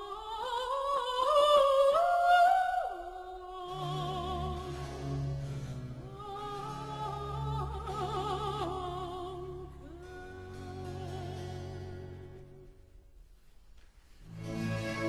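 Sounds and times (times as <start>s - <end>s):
slow classical music: 0.1s - 15.0s.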